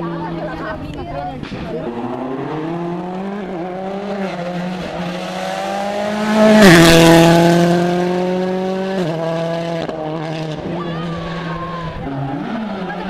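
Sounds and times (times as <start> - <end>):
rally car passing at speed: 1.4 - 13.0.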